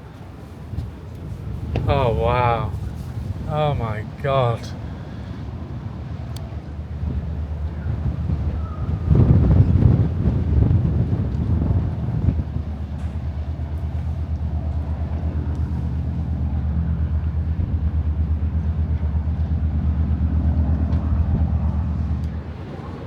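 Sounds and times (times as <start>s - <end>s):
engine drone with fast pulsing: 0.2s - 23.0s.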